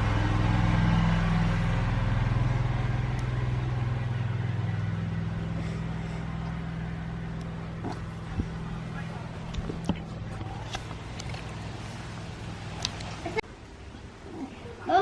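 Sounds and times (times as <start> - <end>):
vehicle engine running: 0.0 - 13.4.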